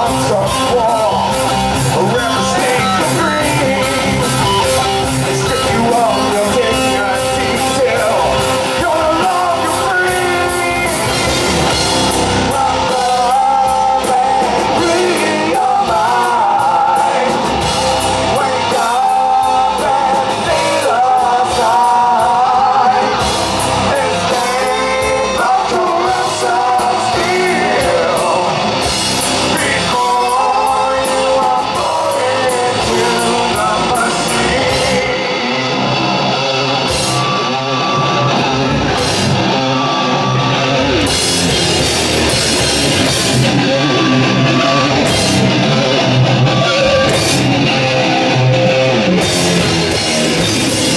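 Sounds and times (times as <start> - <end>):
drums: 0.0 - 50.9
electric guitar: 0.0 - 50.9
live heavy rock band: 0.0 - 50.9
person singing: 0.0 - 50.9.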